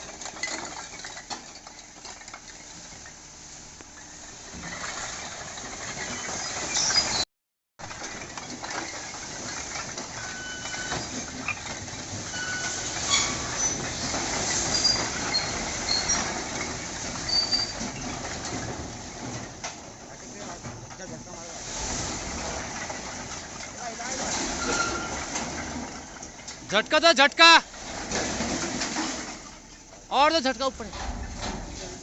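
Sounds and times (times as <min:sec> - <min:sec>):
bricks clattering from truck: 0:00.0 - 0:03.2, 0:03.9 - 0:07.2, 0:07.8 - 0:32.0.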